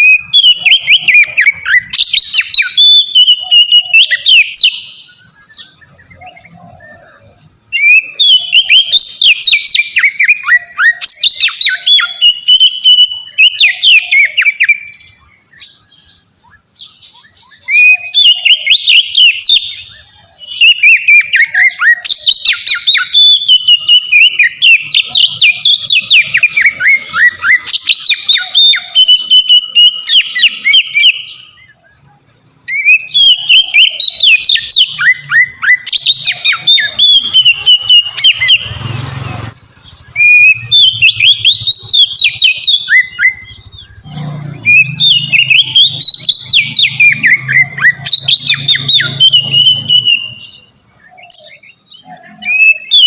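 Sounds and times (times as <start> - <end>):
bird singing varied whistles: 0.0 - 39.0, 39.8 - 53.0.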